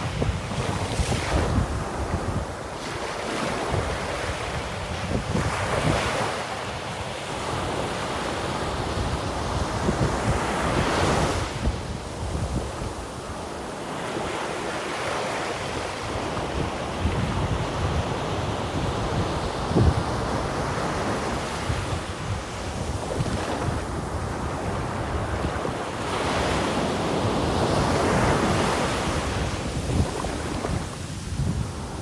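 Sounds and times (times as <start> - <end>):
wind buffeting microphone: 0.0 - 14.4, 15.2 - 32.0
ocean waves breaking on shore: 0.0 - 32.0.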